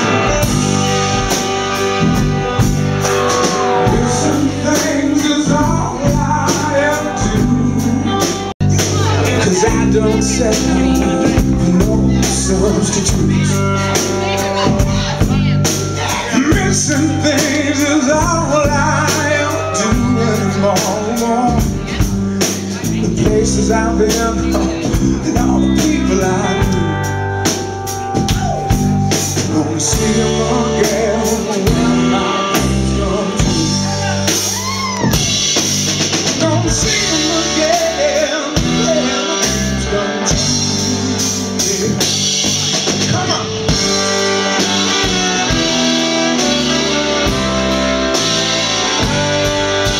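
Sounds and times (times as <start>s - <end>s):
drum kit beat: 0.0s - 49.9s
electric guitar: 0.0s - 49.9s
person singing: 0.0s - 49.9s.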